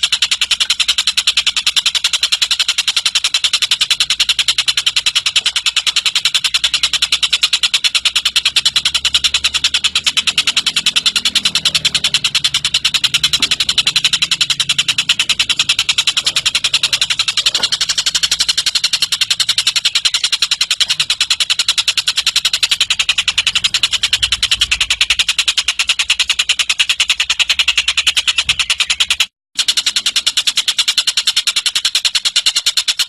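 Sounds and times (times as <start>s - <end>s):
bird trilling high-pitched ticks: 0.0s - 33.0s.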